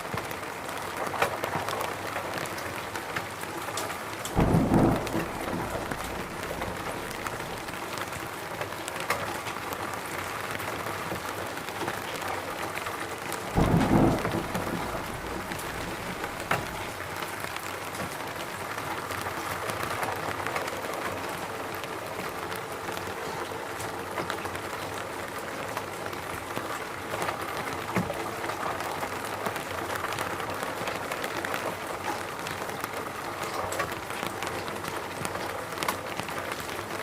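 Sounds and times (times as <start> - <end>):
close raindrop ticks: 0.0 - 37.0
steady rain falling: 0.0 - 37.0.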